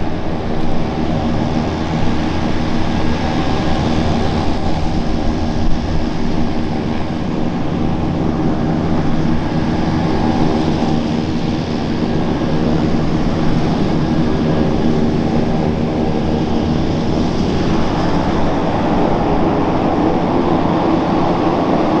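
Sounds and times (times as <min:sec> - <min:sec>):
airplane engines droning: 0:00.0 - 0:22.0.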